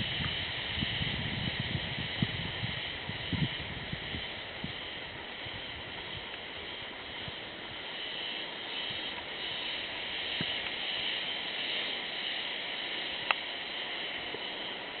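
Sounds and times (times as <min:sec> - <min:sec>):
shrill buzzing insect chorus: 0:00.0 - 0:15.0.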